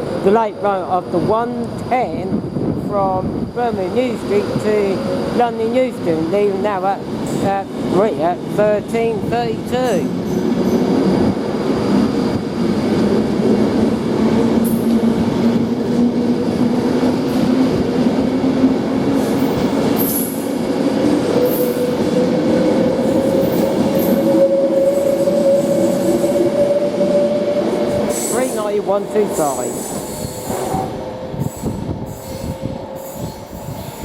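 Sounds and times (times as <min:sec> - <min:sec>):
train wheels on rails: 0:04.0 - 0:34.0.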